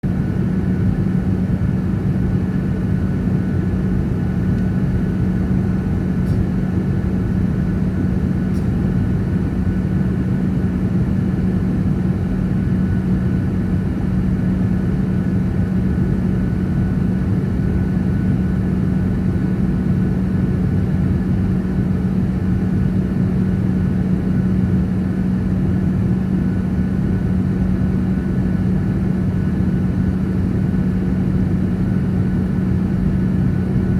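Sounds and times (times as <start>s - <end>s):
constant low hum: 0.0s - 33.9s
airliner engines droning: 0.1s - 33.9s.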